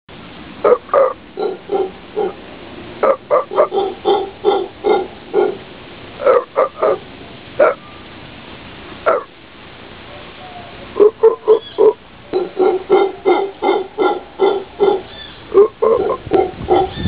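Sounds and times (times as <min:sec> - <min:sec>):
howler monkey calling: 0:00.6 - 0:02.4, 0:03.0 - 0:08.1, 0:09.0 - 0:09.4, 0:10.1 - 0:17.0.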